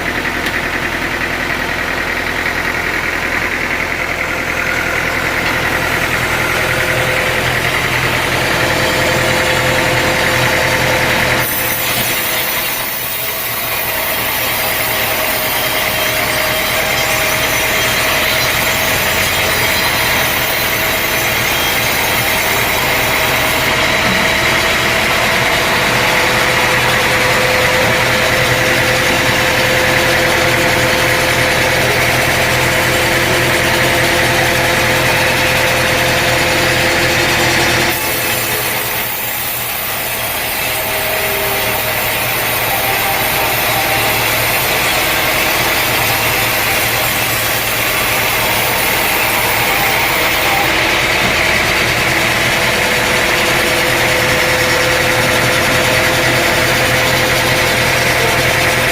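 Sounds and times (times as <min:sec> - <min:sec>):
saw cutting through log: 0:00.0 - 0:58.9
sawmill engine running: 0:00.0 - 0:58.9.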